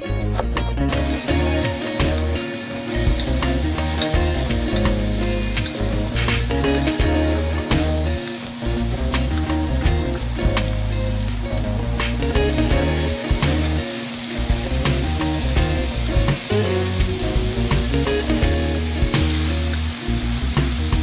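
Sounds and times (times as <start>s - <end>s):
background music with bass: 0.0s - 21.0s
beef sizzling in a wok: 0.9s - 21.0s.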